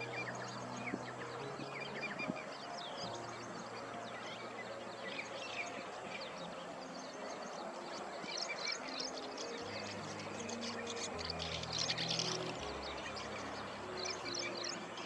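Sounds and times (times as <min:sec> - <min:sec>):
small birds chirping: 0:00.0 - 0:15.0
soft music of low notes: 0:00.0 - 0:15.0.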